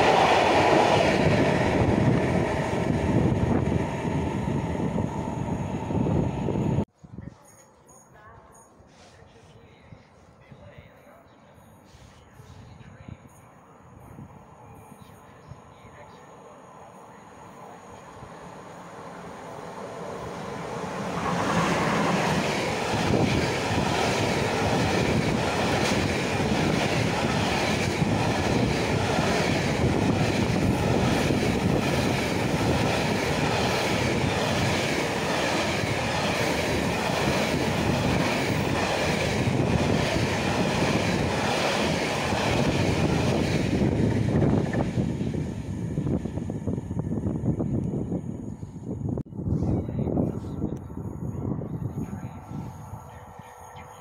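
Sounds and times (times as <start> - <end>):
freight train wheels on rails: 0.0 - 6.9, 14.7 - 54.0.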